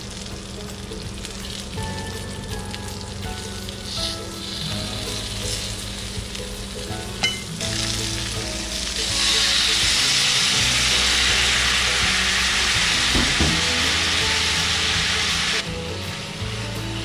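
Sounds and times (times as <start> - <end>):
fish sizzling in a frying pan: 0.0 - 17.0
sauce hissing in hot pan: 0.0 - 17.0.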